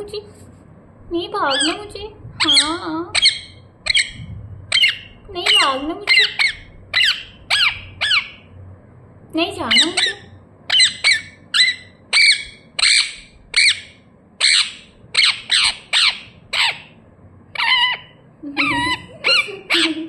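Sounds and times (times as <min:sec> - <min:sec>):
parakeet squawking: 0:01.4 - 0:08.6, 0:09.6 - 0:20.0.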